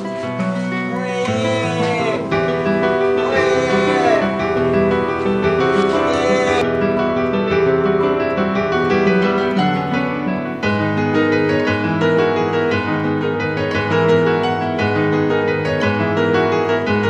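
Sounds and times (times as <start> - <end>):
piano background music: 0.0 - 17.0.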